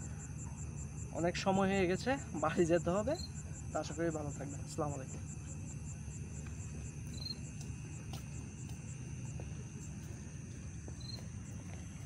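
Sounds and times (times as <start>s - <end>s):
faint pulsing chirp: 0.0s - 12.0s
low steady rumble: 0.0s - 12.0s
night insects trilling: 0.0s - 12.0s.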